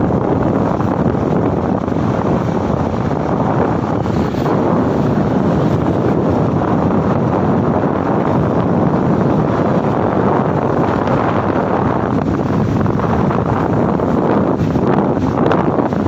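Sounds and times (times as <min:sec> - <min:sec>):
road noise: 0:00.0 - 0:16.0
wind rushing over microphone: 0:00.0 - 0:16.0.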